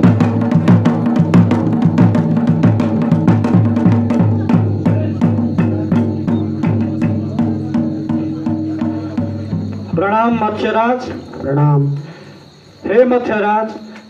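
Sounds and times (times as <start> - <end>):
fast even drumming: 0.0 - 12.0.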